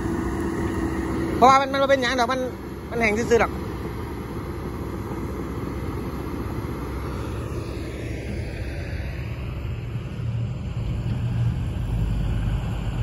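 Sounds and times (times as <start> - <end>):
heavy diesel engines rumbling: 0.0 - 13.0.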